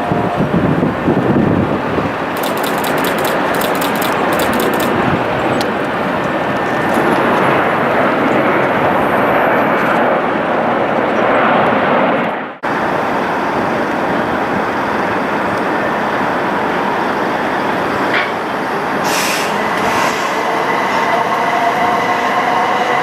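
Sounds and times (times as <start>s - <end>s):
jet engines rushing: 0.0s - 23.0s.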